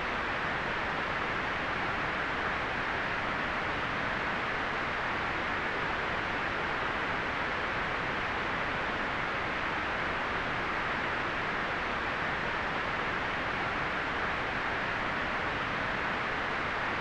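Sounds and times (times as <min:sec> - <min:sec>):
steady white noise hiss: 0:00.0 - 0:17.0.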